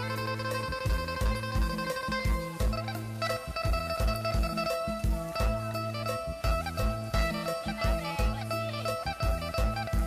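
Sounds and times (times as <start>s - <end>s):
plucked guitar: 0.0s - 10.0s
steady low beat: 0.0s - 10.0s.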